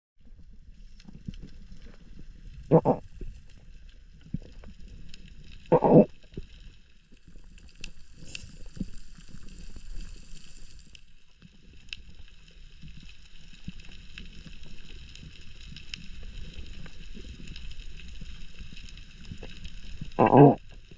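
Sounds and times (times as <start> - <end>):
underwater rumbling: 0.2 - 20.9.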